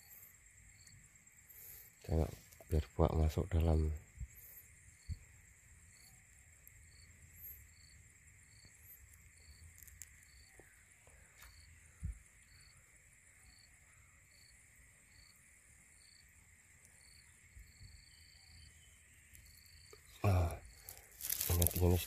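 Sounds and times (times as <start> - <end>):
insect chirping in pulses: 0.0 - 22.0.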